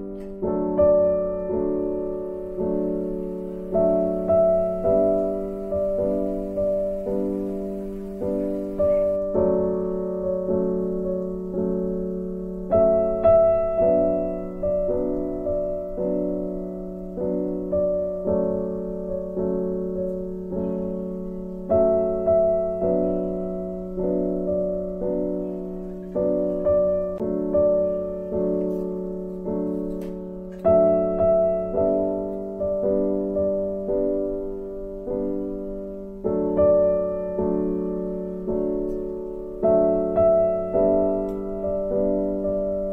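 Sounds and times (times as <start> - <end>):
gentle piano melody: 0.0 - 42.9.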